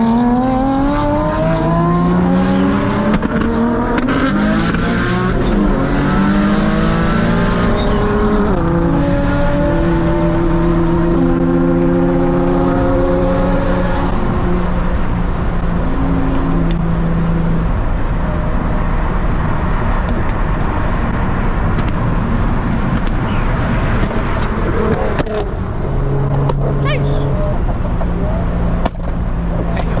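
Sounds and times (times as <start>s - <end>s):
car engine drone: 0.0s - 30.0s
road noise: 0.0s - 30.0s.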